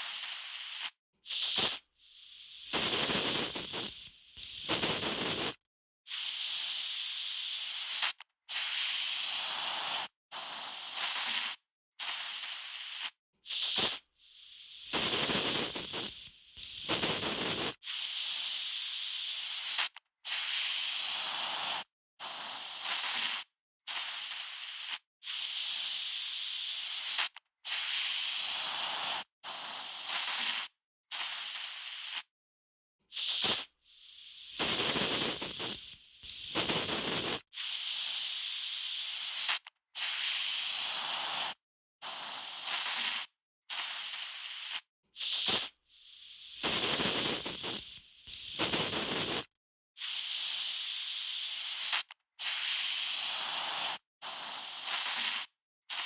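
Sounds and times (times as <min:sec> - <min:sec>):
aerosol spray can hissing: 0:00.0 - 0:32.3, 0:33.1 - 0:56.0.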